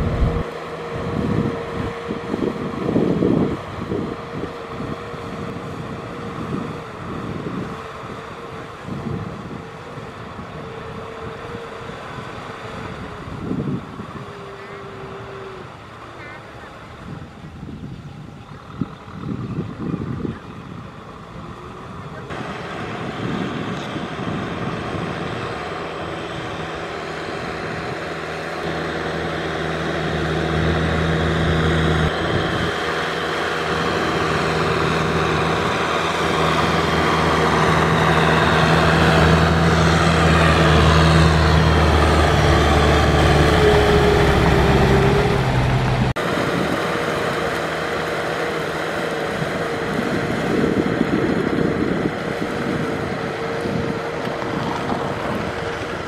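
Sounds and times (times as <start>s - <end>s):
diesel tractor engine running: 0.0s - 56.0s
distant tractor engine: 0.0s - 56.0s.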